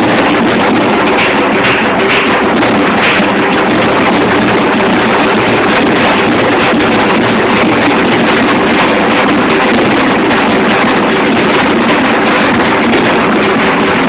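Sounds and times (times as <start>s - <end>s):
drum ensemble playing fast: 0.0s - 14.0s.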